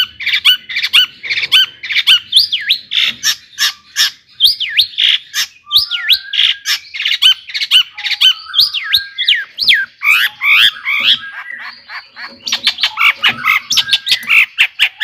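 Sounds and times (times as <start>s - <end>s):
shrike singing and squawking: 0.0s - 15.0s.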